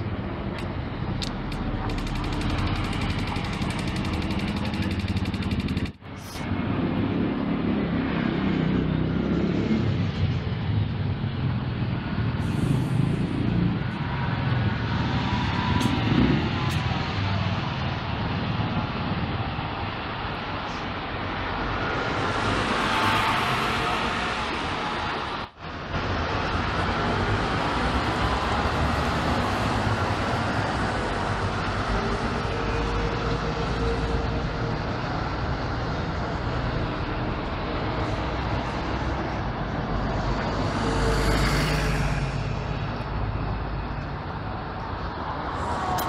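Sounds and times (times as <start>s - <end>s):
buses and traffic driving past: 0.0s - 46.0s.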